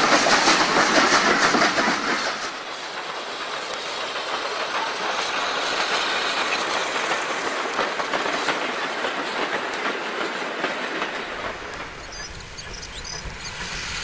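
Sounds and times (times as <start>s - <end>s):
model train wheels rattling on track: 0.0s - 14.0s.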